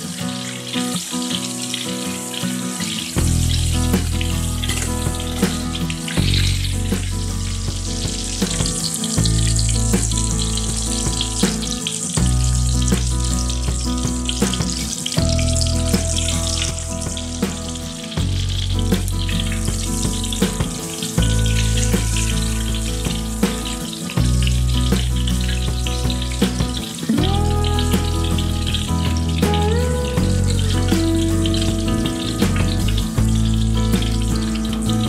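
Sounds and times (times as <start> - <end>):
deep-frying sizzle with crackles: 0.0 - 35.0
background music with bass: 3.0 - 35.0.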